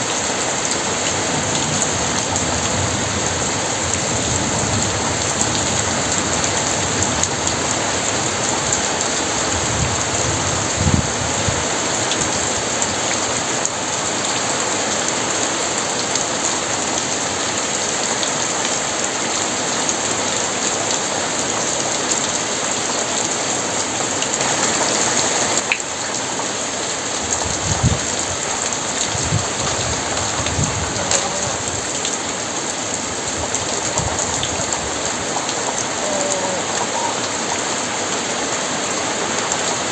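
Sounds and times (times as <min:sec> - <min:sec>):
very heavy rain: 0:00.0 - 0:39.9.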